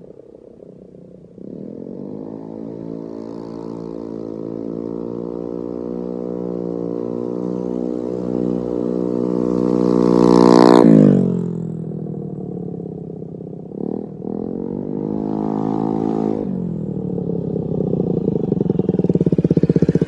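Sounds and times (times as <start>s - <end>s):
scooter engine revving: 1.4s - 11.7s, 13.7s - 20.0s.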